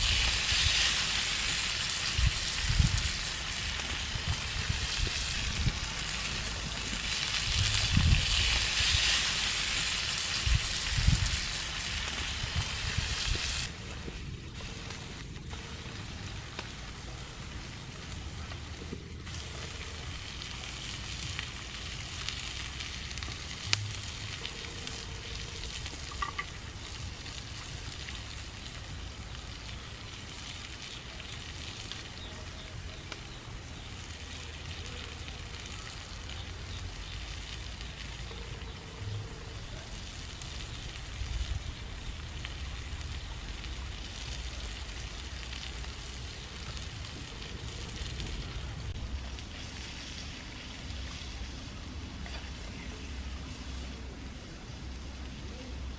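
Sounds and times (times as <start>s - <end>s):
shrimp sizzling in oil: 0.0s - 55.9s.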